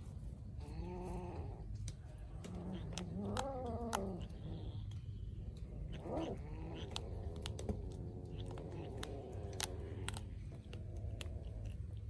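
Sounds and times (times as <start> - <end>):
kitten chewing raw fish: 0.5 - 12.0.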